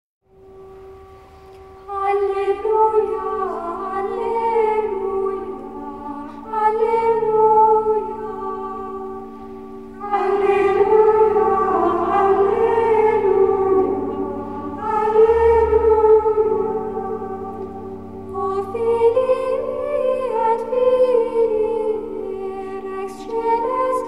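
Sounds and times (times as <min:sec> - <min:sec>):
choir singing sustained chords: 0:00.3 - 0:24.0.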